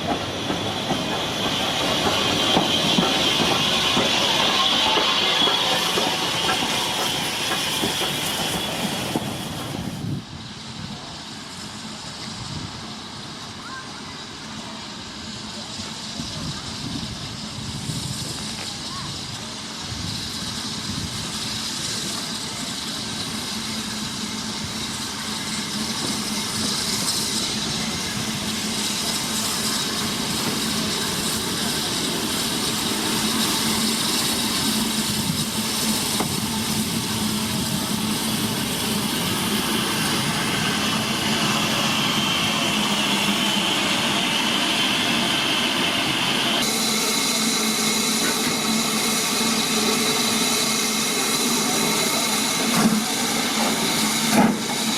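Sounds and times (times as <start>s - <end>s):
steam hiss: 0.0s - 54.9s
steam train rushing: 0.0s - 54.9s.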